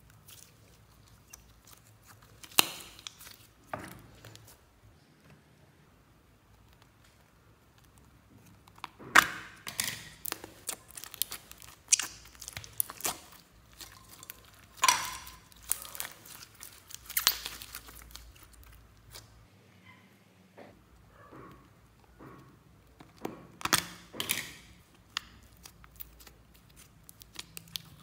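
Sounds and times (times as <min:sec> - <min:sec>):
slime crackling and squelching: 0:00.0 - 0:04.7, 0:06.2 - 0:19.5, 0:21.6 - 0:28.0.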